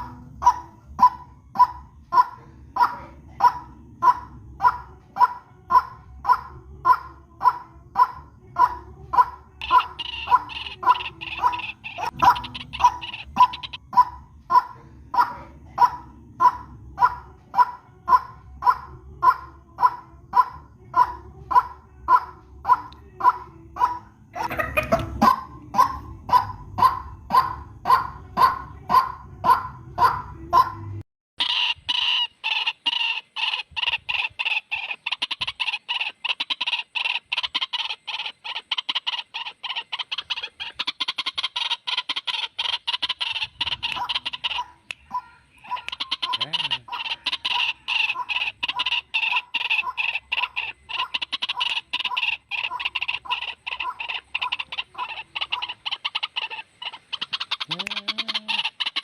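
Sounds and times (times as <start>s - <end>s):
bird croaking calls: 0.0s - 59.0s.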